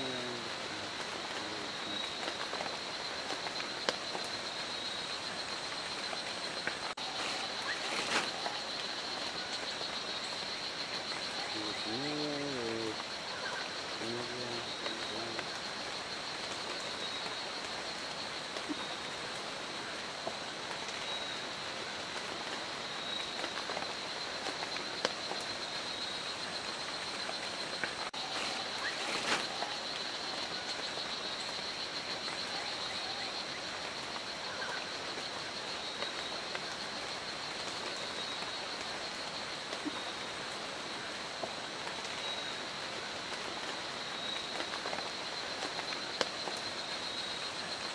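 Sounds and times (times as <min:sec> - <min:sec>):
constant hiss: 0:00.0 - 0:47.9.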